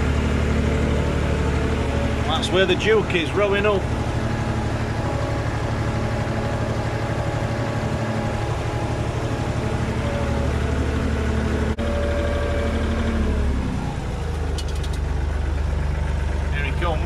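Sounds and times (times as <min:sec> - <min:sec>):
farm vehicle engine running: 0:00.0 - 0:17.0.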